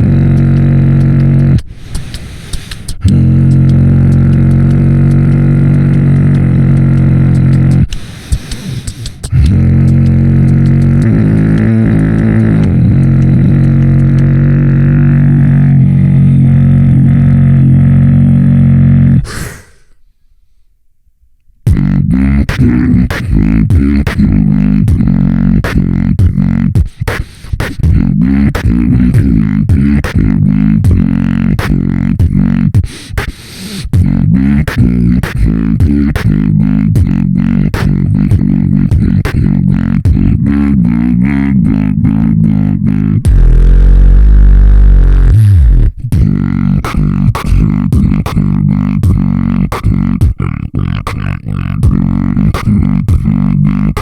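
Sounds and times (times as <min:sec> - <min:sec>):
beatboxing: 0:00.0 - 0:20.0, 0:21.6 - 0:54.0.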